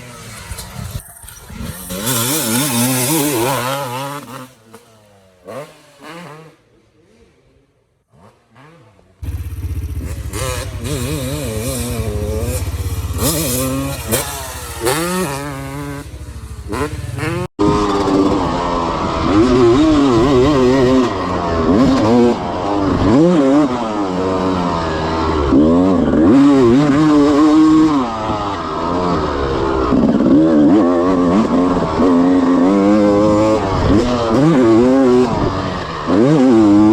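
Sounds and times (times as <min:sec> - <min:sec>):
two-stroke engine revving: 0:00.0 - 0:06.6, 0:08.1 - 0:36.9.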